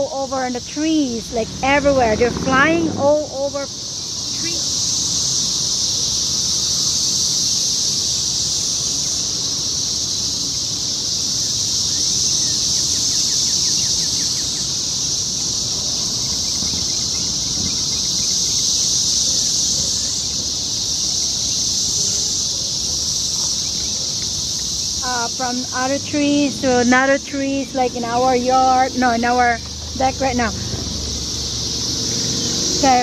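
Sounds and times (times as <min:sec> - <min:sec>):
cicadas droning chorus: 0:00.0 - 0:33.0.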